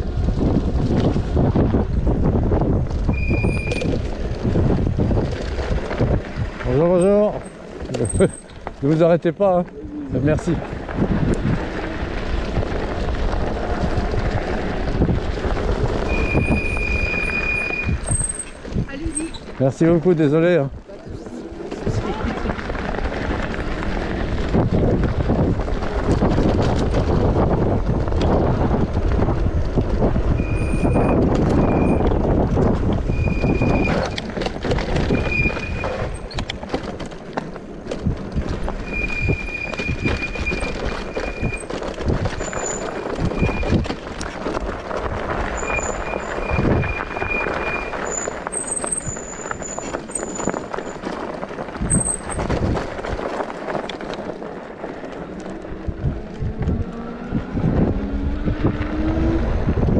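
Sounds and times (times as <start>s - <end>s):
bike tyre rumble on dirt trail: 0.0s - 59.9s.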